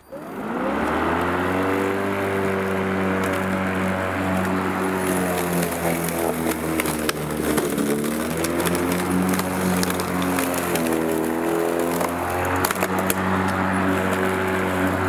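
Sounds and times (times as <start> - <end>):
electric lawn mower running: 0.0 - 15.0.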